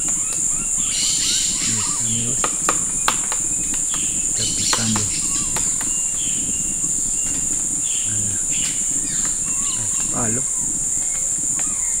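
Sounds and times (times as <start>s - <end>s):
high bird chirps: 0.0s - 12.0s
shrill insect drone: 0.0s - 12.0s
woodpecker pecking: 0.0s - 12.0s.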